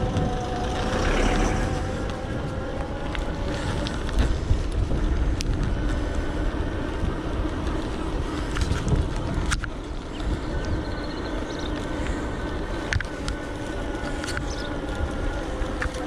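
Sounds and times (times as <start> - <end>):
tyres on road: 0.0 - 16.0
wind rumble on microphone: 0.0 - 16.0.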